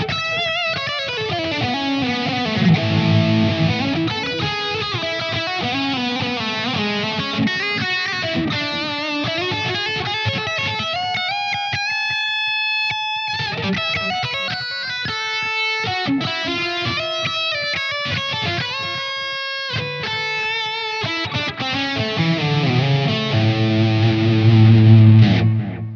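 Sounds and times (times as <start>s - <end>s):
electric guitar lead solo: 0.0s - 25.9s.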